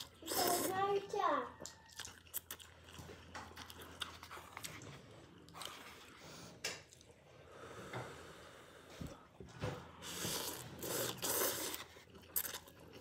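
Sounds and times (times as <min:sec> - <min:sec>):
person chewing noodles: 0:00.0 - 0:01.0, 0:01.6 - 0:13.0.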